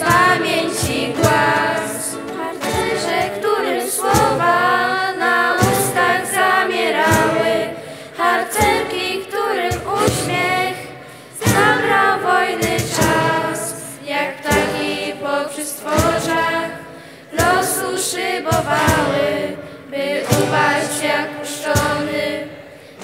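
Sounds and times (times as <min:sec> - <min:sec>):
group of young voices singing: 0:00.0 - 0:23.0.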